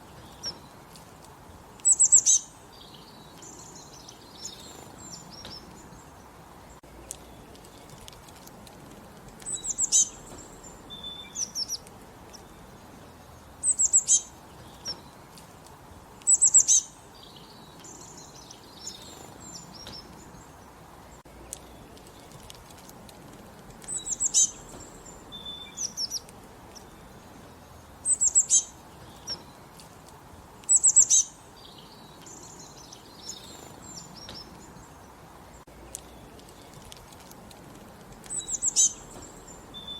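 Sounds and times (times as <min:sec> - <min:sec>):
birds twittering: 0:00.0 - 0:39.9
faint background hiss: 0:00.0 - 0:39.9
songbirds chirping: 0:00.0 - 0:39.9.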